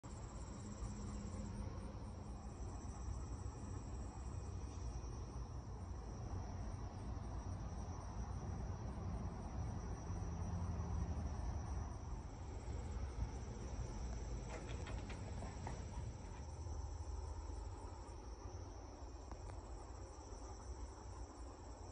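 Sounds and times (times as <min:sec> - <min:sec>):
crickets chirring: 0:00.1 - 0:21.9.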